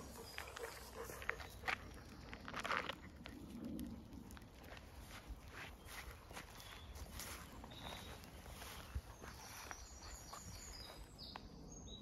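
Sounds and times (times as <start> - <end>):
footsteps on gravel: 0.0 - 3.5, 4.6 - 11.3.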